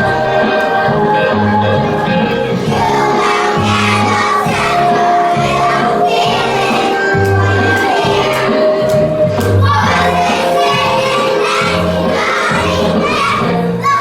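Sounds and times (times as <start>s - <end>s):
children singing: 0.0s - 14.0s
loud music with bass line: 0.0s - 14.0s.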